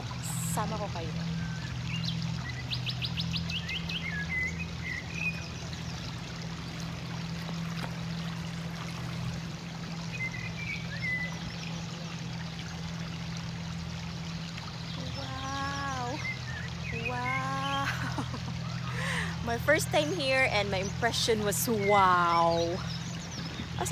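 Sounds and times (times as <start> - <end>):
low even hum: 0.0 - 23.9
small birds chirping: 0.0 - 23.9.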